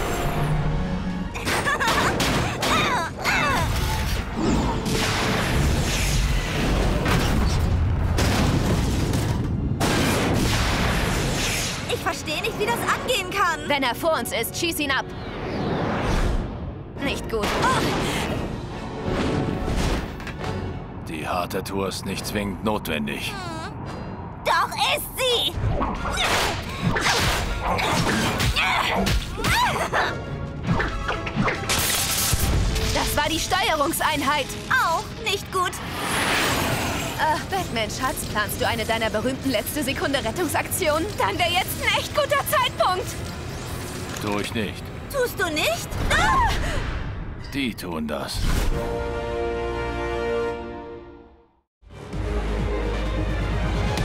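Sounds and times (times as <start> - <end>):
dramatic music: 0.0 - 44.1, 48.3 - 54.0.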